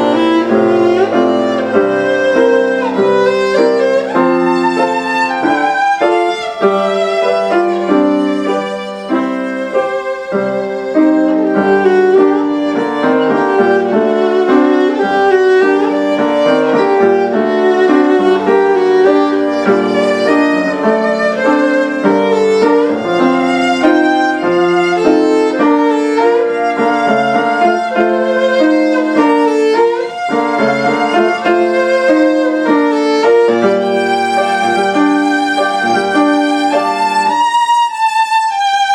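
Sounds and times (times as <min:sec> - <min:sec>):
piano accompaniment: 0:00.0 - 0:38.9
solo violin with vibrato: 0:00.0 - 0:38.9.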